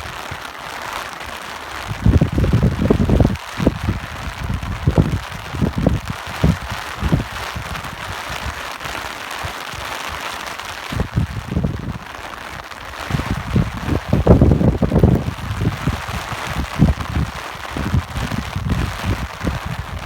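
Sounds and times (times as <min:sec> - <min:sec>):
steady rain hiss: 0:00.0 - 0:20.0
wind gusts rumbling: 0:01.8 - 0:09.1, 0:09.7 - 0:20.0.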